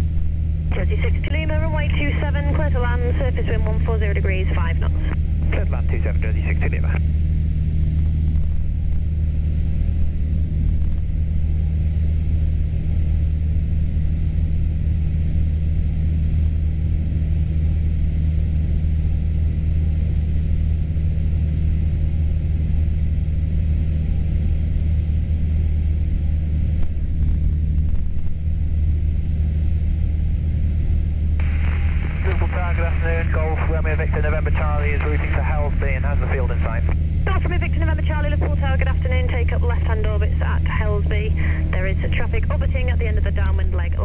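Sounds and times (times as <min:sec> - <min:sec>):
light aircraft engine droning: 0:00.0 - 0:44.0.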